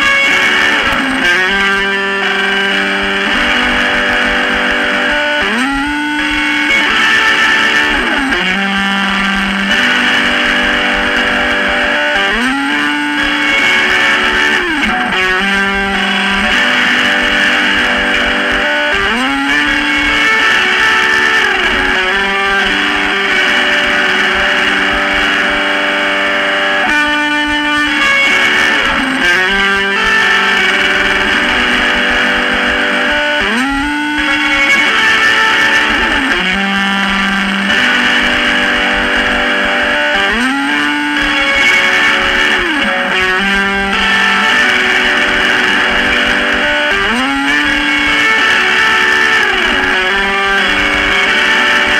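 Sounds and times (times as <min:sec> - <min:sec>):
distorted electric guitar: 0:00.0 - 0:51.9.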